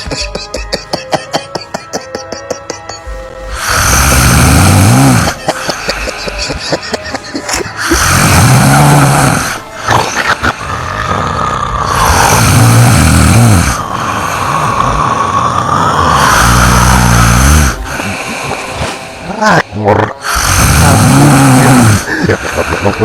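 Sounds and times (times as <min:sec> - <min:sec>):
person snoring loudly: 0:03.4 - 0:07.0, 0:07.6 - 0:23.0.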